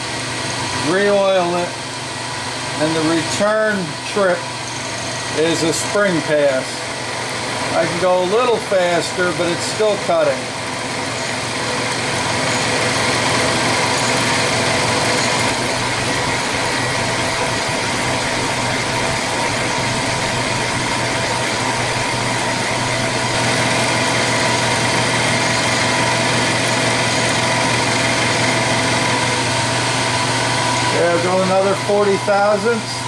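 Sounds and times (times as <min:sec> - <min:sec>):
milling machine spindle hum: 0:00.0 - 0:33.0.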